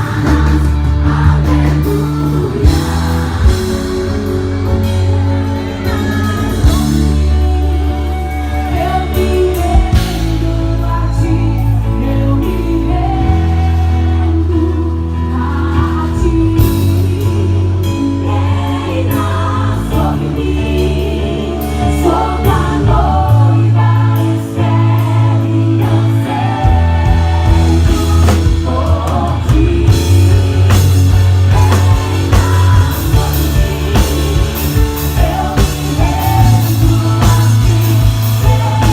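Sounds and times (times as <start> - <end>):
bass notes: 0.0 - 38.9
gospel band music: 0.0 - 38.9
people singing: 0.0 - 38.9.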